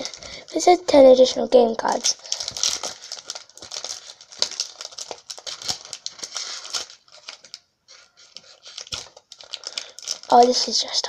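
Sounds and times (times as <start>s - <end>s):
plastic wrapper crinkling and tearing: 0.0s - 11.0s.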